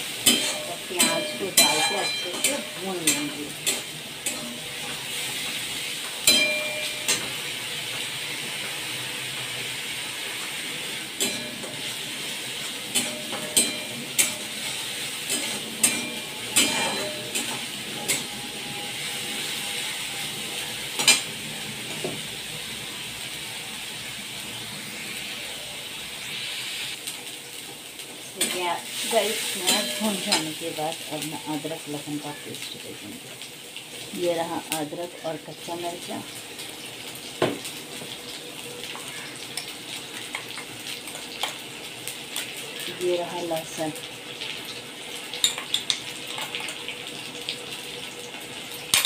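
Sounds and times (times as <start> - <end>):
onion paste sizzling in oil: 0.0 - 49.0.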